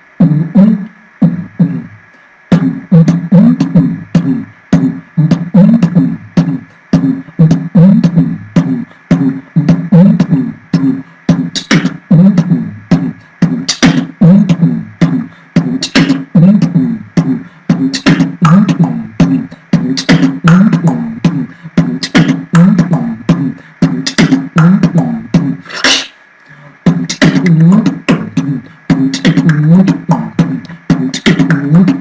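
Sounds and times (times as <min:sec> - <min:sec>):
person beatboxing: 0:00.0 - 0:32.0.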